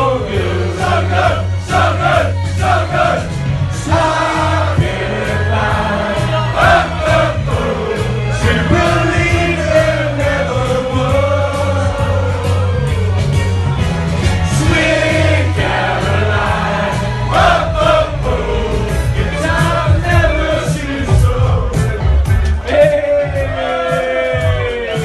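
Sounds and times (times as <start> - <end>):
men singing along: 0.0 - 13.1, 14.4 - 25.0
loud pop music over speakers: 0.0 - 25.0.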